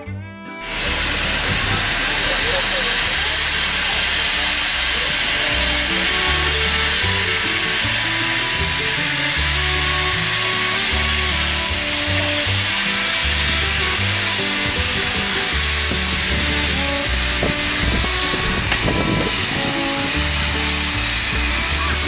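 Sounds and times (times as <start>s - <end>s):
background music with held notes: 0.0s - 22.0s
steam hissing: 0.6s - 22.0s.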